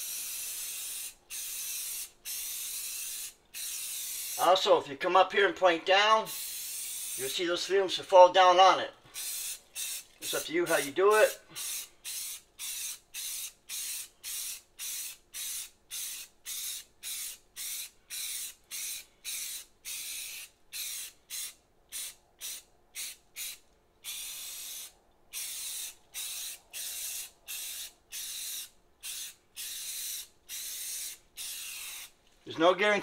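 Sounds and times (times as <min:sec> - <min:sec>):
spray can hissing: 0:00.0 - 0:04.6, 0:06.3 - 0:07.4, 0:09.1 - 0:32.2.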